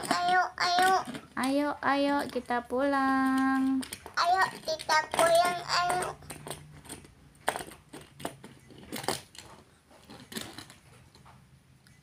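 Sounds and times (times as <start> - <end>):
toy car clicking on plastic case: 0.0 - 11.3.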